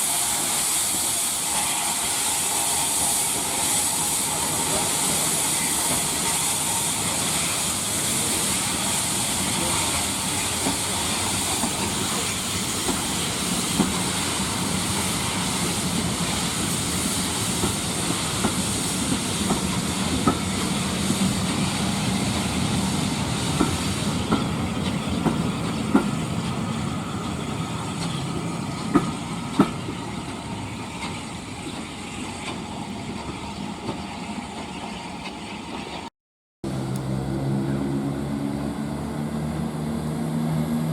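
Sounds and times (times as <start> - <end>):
steam hissing: 0.0 - 34.5.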